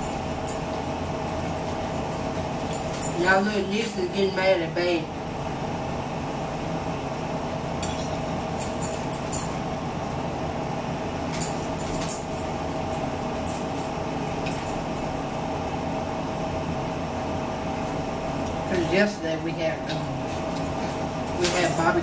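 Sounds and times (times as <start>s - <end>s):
room hum: 0.0s - 22.0s.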